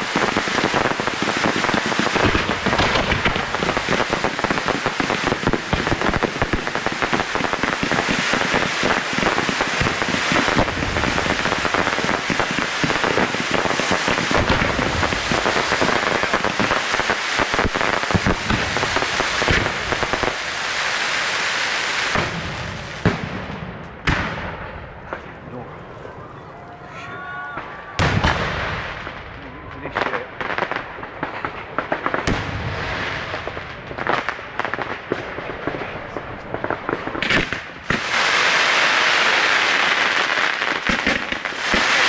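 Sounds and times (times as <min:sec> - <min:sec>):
fireworks crackling and popping: 0:00.0 - 0:42.0.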